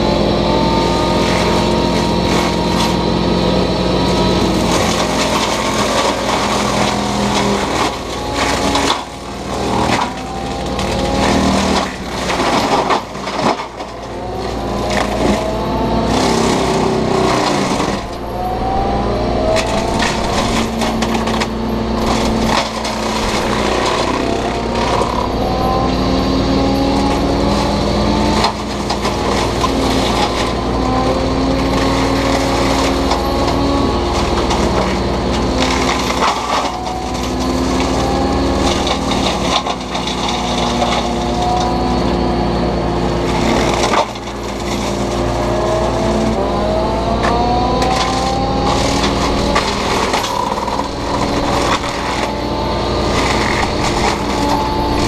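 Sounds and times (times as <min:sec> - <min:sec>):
excavator diesel engine under load: 0:00.0 - 0:55.0
mulcher whining: 0:00.0 - 0:55.0
wood crunching in mulcher: 0:00.0 - 0:55.0.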